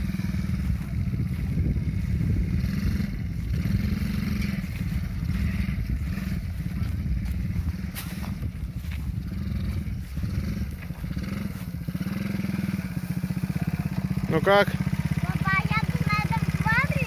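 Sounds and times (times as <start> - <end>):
small engine throbbing: 0.0 - 17.0.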